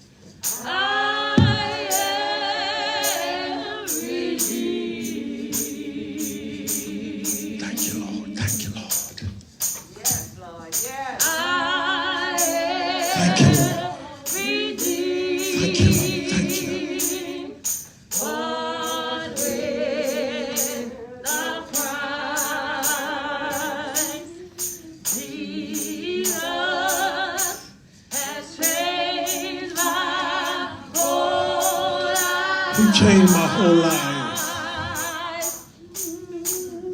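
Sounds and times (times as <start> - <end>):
gospel singing: 0.0 - 36.9
tambourine beat: 0.0 - 36.9.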